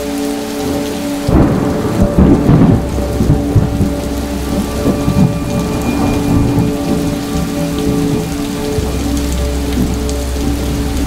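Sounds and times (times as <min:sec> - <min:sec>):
rain falling: 0:00.0 - 0:11.0
thunder rumbling: 0:00.0 - 0:11.0.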